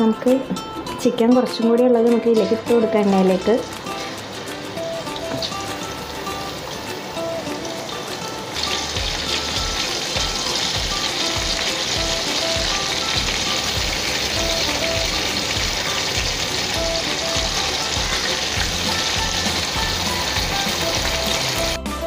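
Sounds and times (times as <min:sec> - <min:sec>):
soft background music: 0:00.0 - 0:22.0
chicken sizzling in oil: 0:02.4 - 0:21.8.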